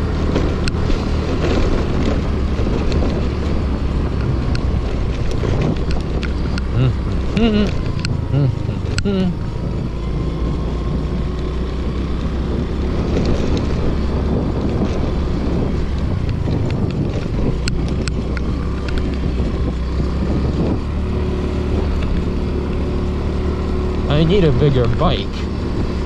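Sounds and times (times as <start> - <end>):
scooter engine running: 0.0 - 26.0
wind buffeting microphone: 0.0 - 26.0.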